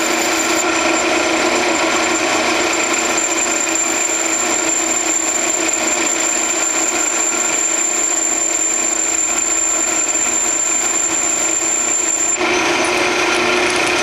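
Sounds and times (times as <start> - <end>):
thin high whine: 0.0 - 13.1
metal lathe hum: 0.0 - 14.0.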